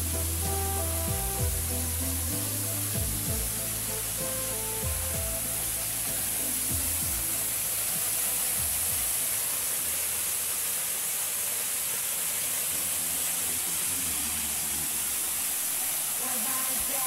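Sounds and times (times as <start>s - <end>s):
waterfall onto rocks: 0.0s - 17.0s.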